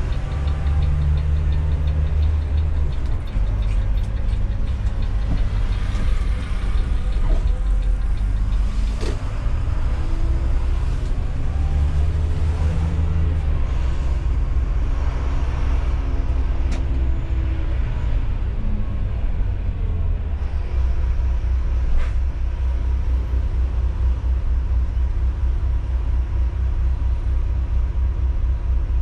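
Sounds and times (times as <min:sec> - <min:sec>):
diesel bus engine droning: 0:00.0 - 0:29.0.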